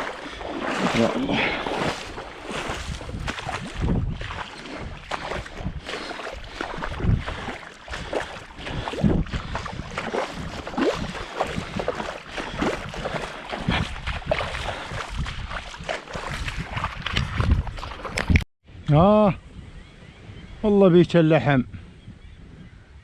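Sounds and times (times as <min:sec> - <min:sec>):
water sloshing and splashing: 0:00.0 - 0:18.4
wind on microphone: 0:00.0 - 0:20.9, 0:21.6 - 0:23.0.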